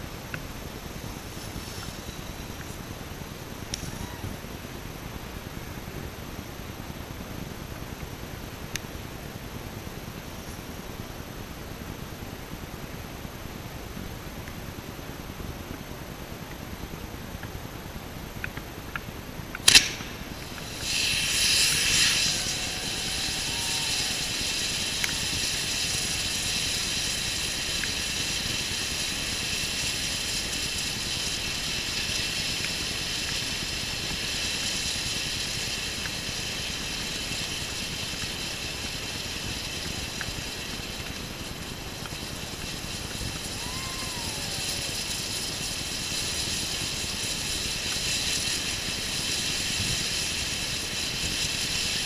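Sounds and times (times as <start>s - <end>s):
firework fountain hissing: 0.0s - 52.0s.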